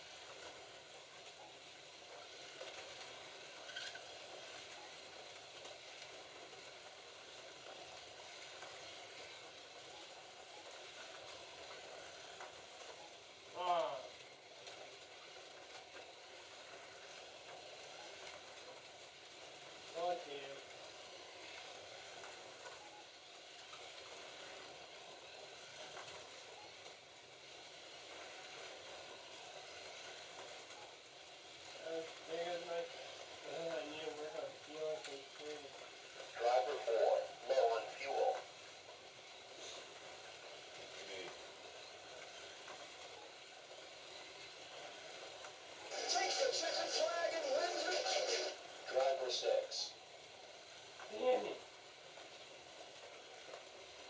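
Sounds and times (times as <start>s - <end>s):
slot car electric motors hissing: 0.0s - 54.0s.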